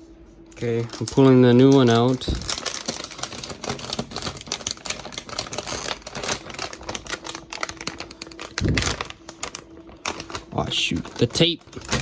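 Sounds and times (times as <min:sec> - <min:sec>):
packaging clicking and crinkling: 0:00.6 - 0:12.0.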